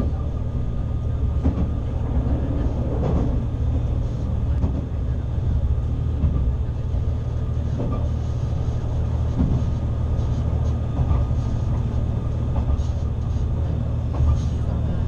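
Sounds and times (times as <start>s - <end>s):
railcar engine and wheels rumbling: 0.0s - 15.0s.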